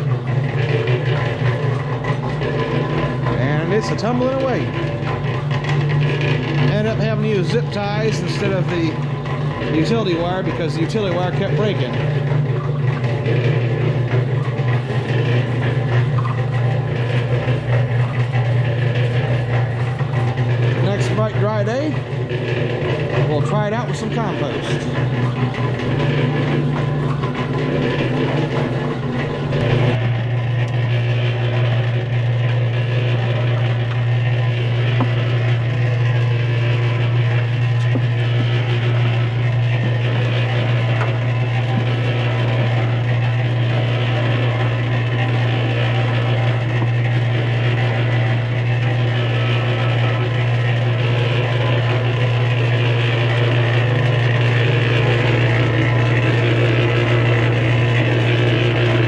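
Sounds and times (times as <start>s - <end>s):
cement mixer running: 0.0s - 59.0s.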